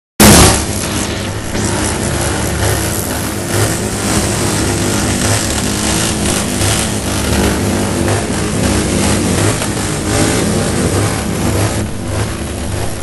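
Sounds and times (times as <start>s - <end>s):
motorcycle engines running: 0.2s - 13.0s.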